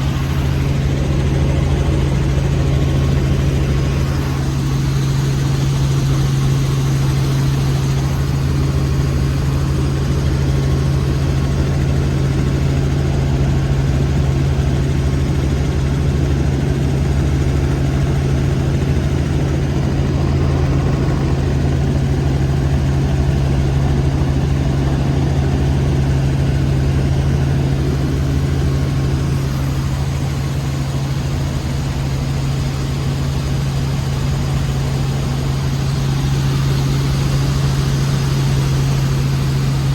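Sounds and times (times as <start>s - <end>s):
helicopter engine and rotors drone: 0.0s - 39.9s.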